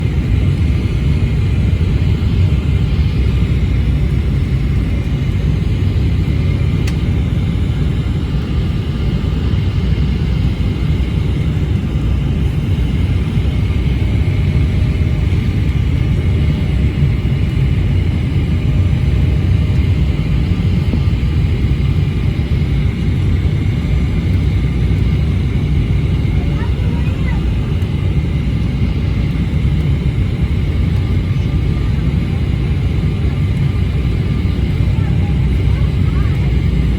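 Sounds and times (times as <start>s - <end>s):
airliner cabin engine rumble: 0.0s - 36.9s.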